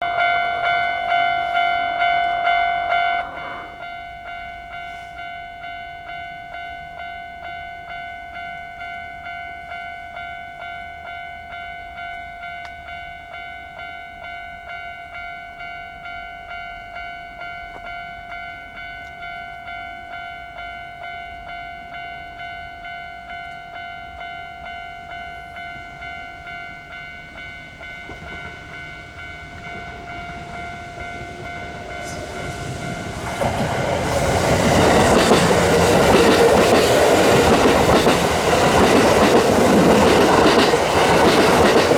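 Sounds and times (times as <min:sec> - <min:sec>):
level-crossing warning bell: 0:00.0 - 0:41.9.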